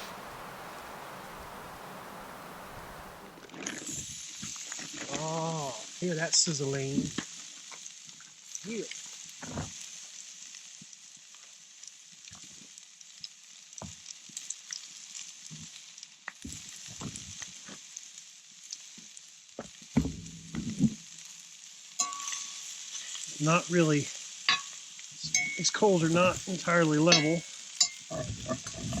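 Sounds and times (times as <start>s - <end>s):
food sizzling in a skillet: 0.0s - 29.0s.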